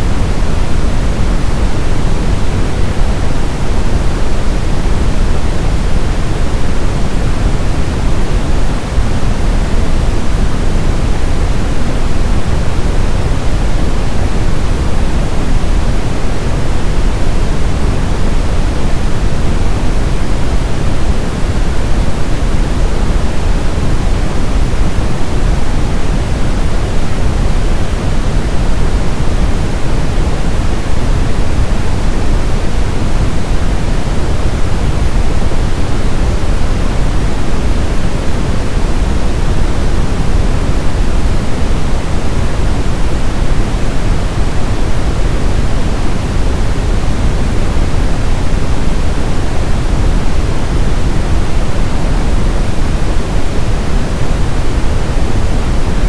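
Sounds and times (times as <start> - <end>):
brown noise: 0.0 - 56.0.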